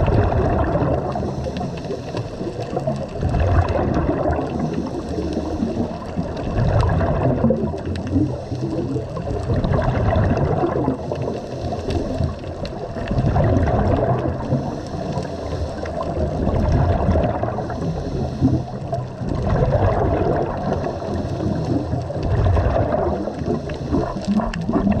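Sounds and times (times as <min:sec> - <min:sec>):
regulator bubbles gurgling underwater: 0:00.0 - 0:25.0.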